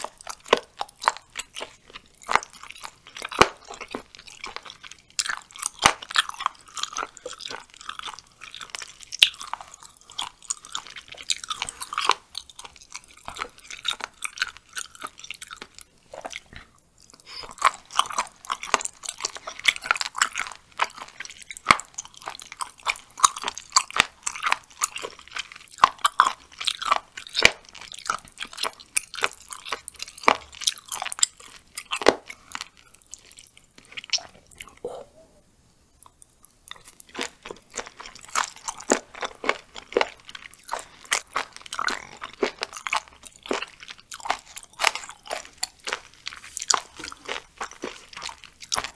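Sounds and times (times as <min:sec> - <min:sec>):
crunchy wet chewing: 0:00.0 - 0:35.1, 0:36.0 - 0:48.9.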